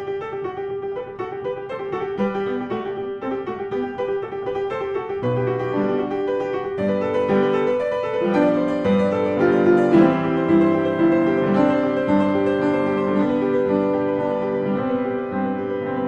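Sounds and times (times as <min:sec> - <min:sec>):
classical piano music: 0:00.0 - 0:16.0.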